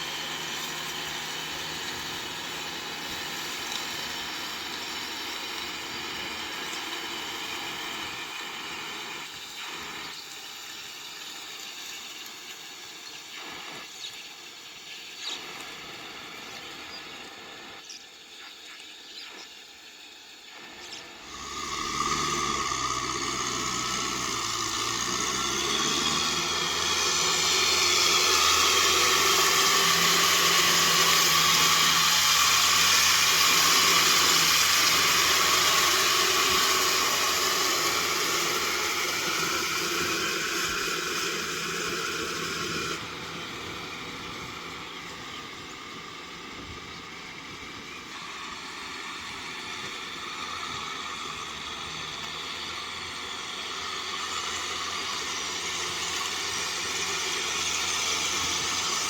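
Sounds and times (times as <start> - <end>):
tractor diesel engine running: 0.0 - 10.0, 21.2 - 59.0
rotavator mechanical wash: 0.0 - 18.0, 18.6 - 59.0.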